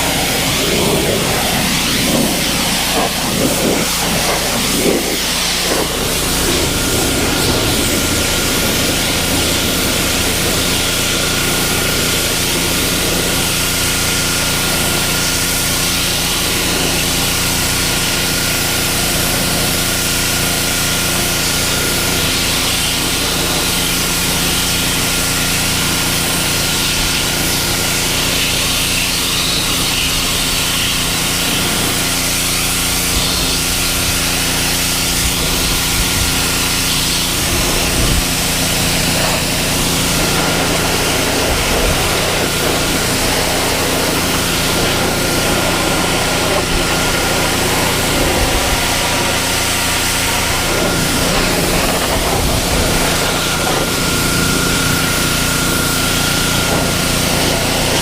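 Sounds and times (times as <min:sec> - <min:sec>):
pressure washer running: 0:00.0 - 0:58.0
water jet spraying wooden deck: 0:00.0 - 0:58.0.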